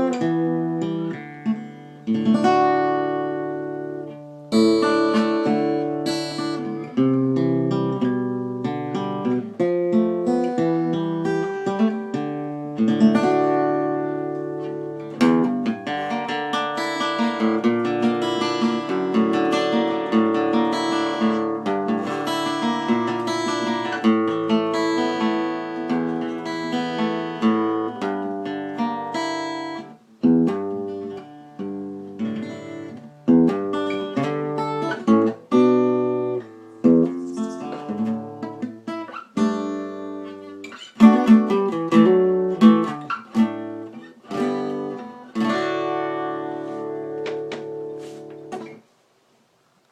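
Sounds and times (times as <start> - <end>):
acoustic guitar strumming: 0.0 - 48.9.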